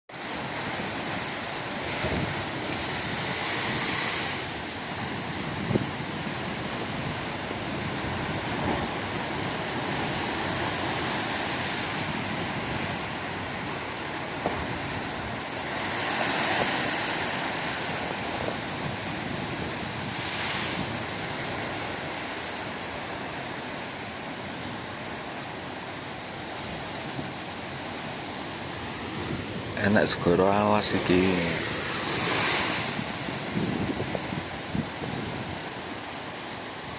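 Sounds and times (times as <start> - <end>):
ocean waves crashing: 0.1 - 36.9.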